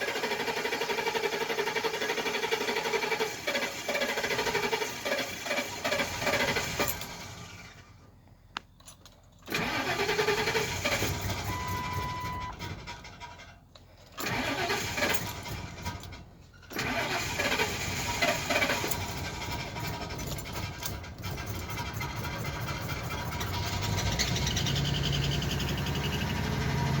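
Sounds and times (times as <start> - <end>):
van engine cranking: 0.0 - 8.1, 8.8 - 27.0.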